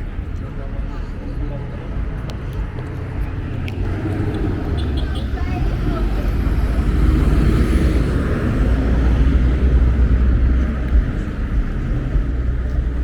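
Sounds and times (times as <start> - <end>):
motor vehicles rumbling: 0.0 - 13.0
road noise: 0.0 - 13.0.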